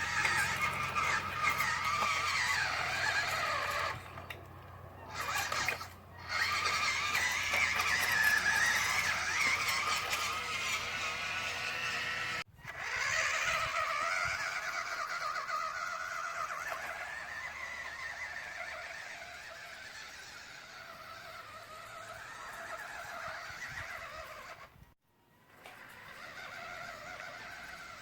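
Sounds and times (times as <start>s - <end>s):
electric toy truck motor whine: 0.0s - 28.0s.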